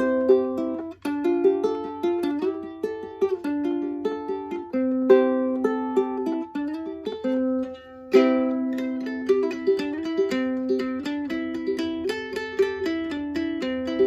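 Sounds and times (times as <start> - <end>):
ukulele plucked notes and chords: 0.0 - 14.0.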